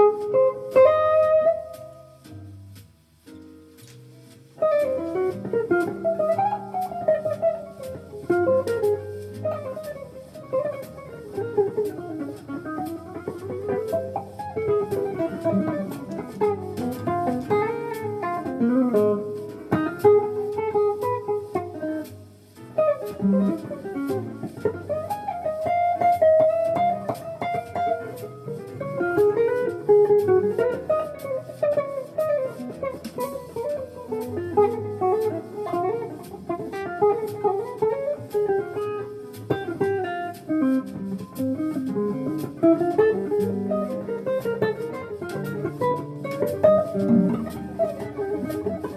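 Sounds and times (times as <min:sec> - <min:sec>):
jazz guitar playing: 0:00.0 - 0:48.9.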